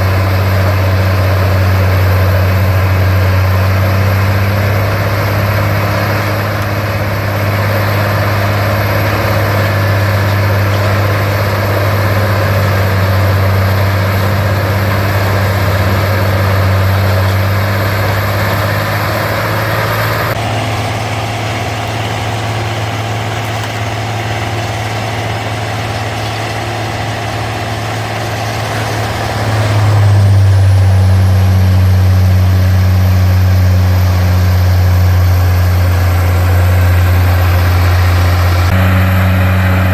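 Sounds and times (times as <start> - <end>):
high whine: 0.0 - 39.9
large diesel engine droning: 0.0 - 39.9.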